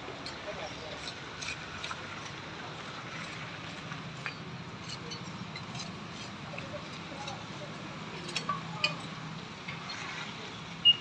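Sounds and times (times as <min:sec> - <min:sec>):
steel trowel scraping mortar: 0:00.2 - 0:09.2.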